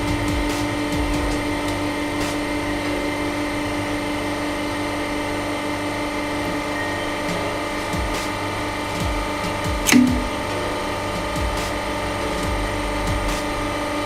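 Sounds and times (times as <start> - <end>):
hydraulic pump humming and whining: 0.0 - 14.0.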